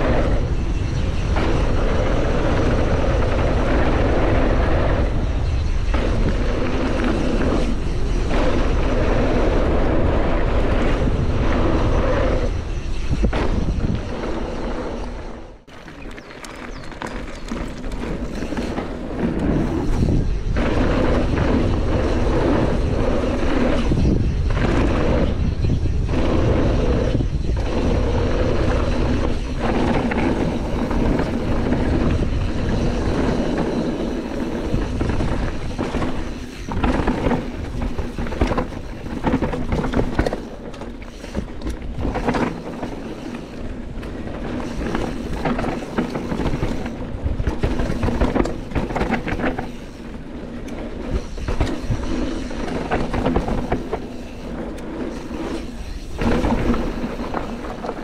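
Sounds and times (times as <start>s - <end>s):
bike rattling and knocking: 0.0s - 58.0s
tyres rolling and skidding on dirt: 0.0s - 58.0s
wind buffeting microphone: 0.0s - 58.0s.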